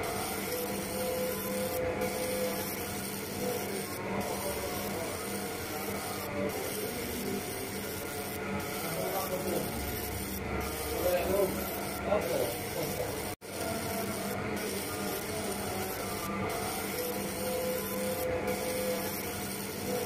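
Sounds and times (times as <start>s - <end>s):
laser marking machine humming: 0.0s - 20.0s.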